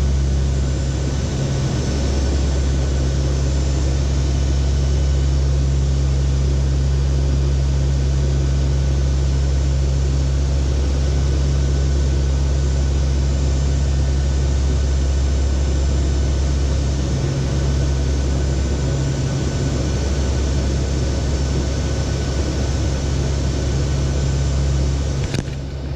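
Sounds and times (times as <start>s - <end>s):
turboprop engines droning: 0.0s - 25.9s.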